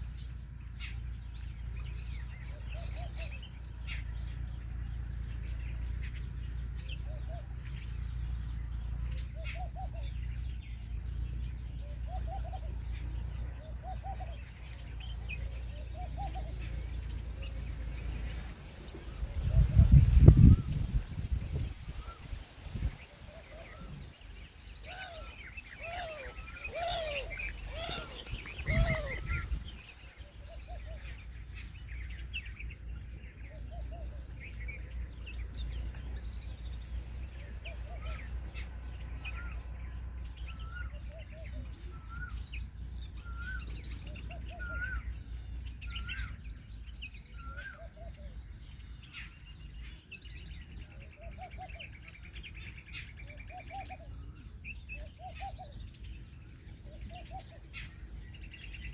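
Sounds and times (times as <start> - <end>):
steady low rumble: 0.0 - 47.4
birds calling and chirping: 0.0 - 58.9.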